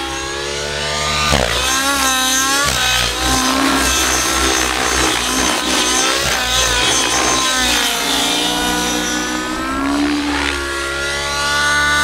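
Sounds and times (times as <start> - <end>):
rc helicopter engine running hard: 0.0 - 12.0.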